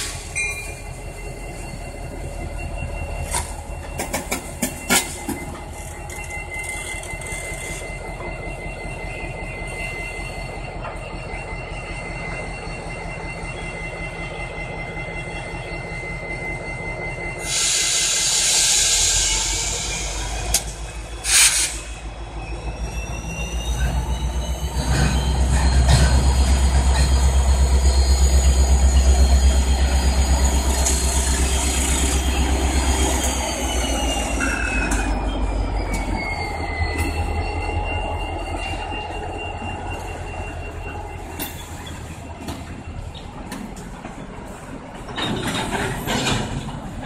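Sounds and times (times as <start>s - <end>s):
steel wheels squealing: 0.0s - 44.2s, 45.0s - 47.0s
diesel locomotive rumbling: 0.0s - 47.0s.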